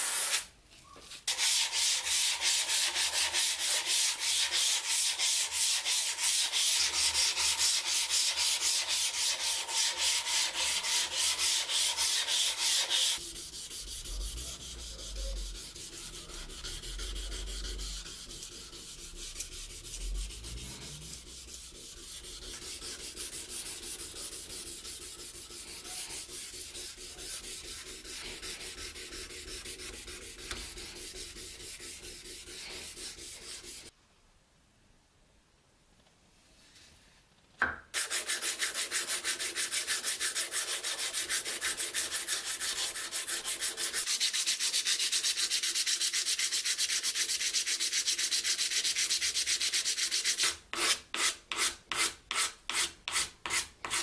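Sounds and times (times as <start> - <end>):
hand sanding rusted metal: 1.3 - 33.9, 38.0 - 54.0.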